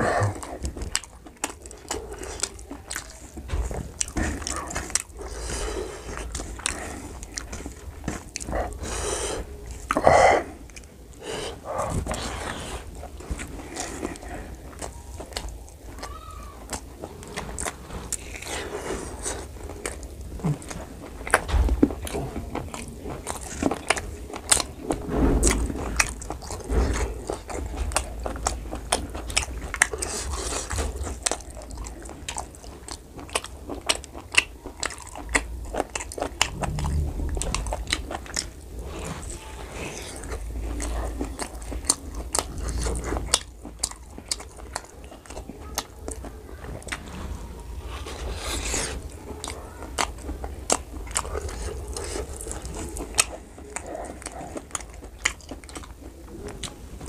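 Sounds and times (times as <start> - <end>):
wet chewing and biting: 0.0 - 57.0.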